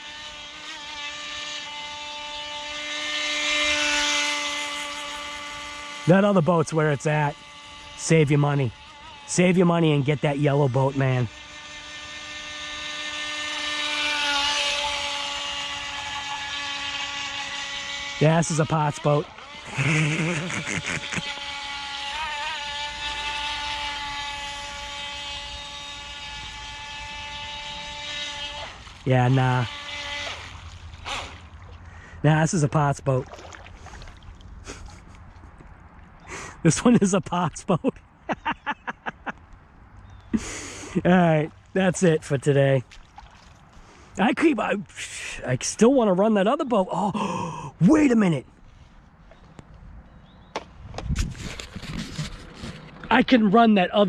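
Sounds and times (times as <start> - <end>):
boat motor high whine: 0.0 - 54.0.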